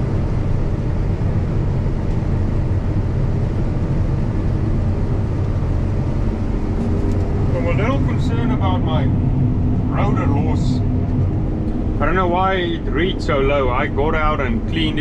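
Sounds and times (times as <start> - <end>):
combine harvester drone: 0.0 - 15.0.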